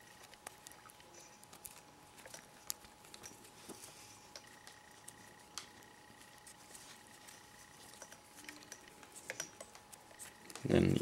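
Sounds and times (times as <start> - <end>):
paracord rustling: 0.0 - 10.7.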